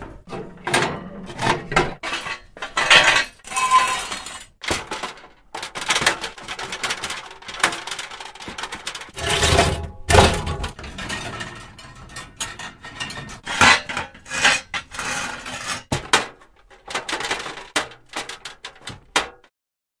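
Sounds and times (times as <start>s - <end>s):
scrap metal clanking and scraping: 0.0s - 19.5s.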